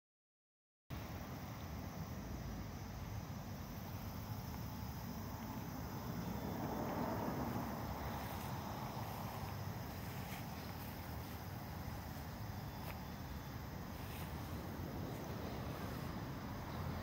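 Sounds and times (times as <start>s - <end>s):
steady low rumble: 3.0s - 17.0s.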